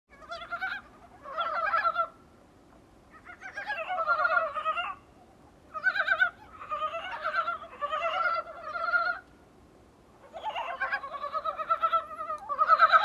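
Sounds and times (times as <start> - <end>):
frogs croaking: 0.1 - 2.2, 3.1 - 9.3, 10.2 - 13.0.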